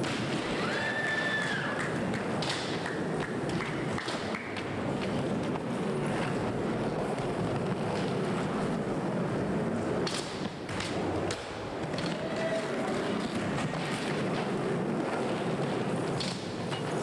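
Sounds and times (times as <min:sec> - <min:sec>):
skateboard clacks: 0:00.0 - 0:17.0
skateboard wheels rolling: 0:00.0 - 0:17.0.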